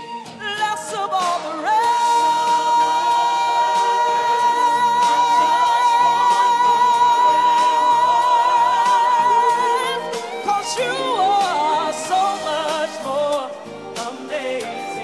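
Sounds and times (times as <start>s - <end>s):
band accompaniment: 0.0s - 15.0s.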